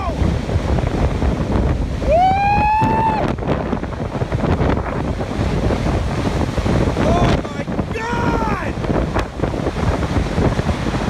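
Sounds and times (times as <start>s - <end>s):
rough surging water: 0.0s - 11.0s
wind buffeting microphone: 0.0s - 11.0s.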